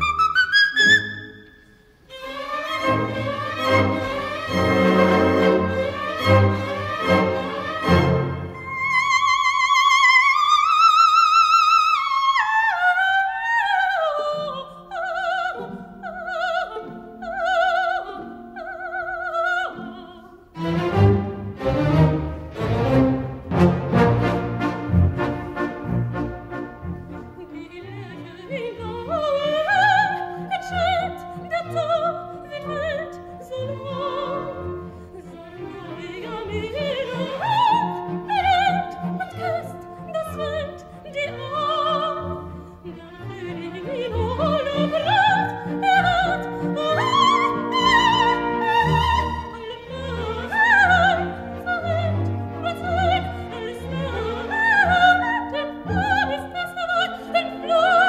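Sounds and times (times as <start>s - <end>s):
soprano singing with orchestra: 0.0s - 58.0s.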